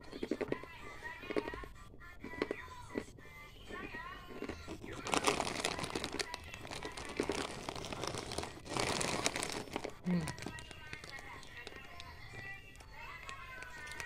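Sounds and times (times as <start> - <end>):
crisp cake crunching: 0.0 - 14.0.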